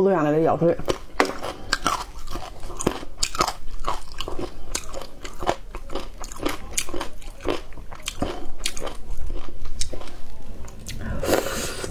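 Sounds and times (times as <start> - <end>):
person chewing and crunching: 0.6 - 11.9.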